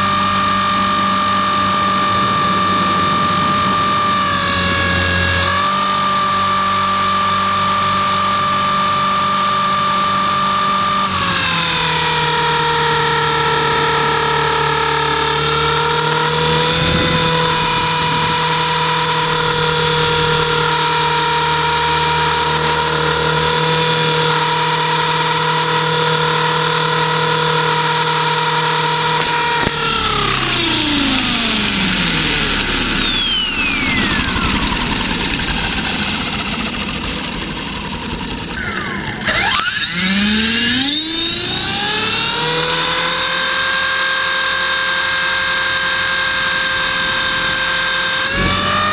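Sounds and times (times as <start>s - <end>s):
model helicopter motor whining: 0.0s - 48.9s.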